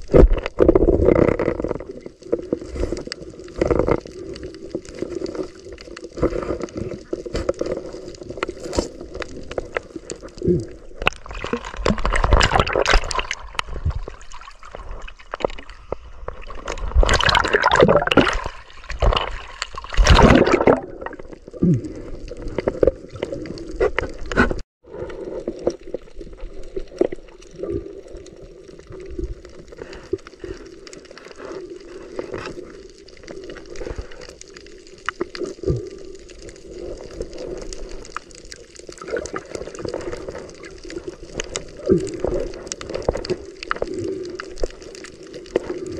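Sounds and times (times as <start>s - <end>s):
underwater bubbling and rushing: 0.0s - 45.9s.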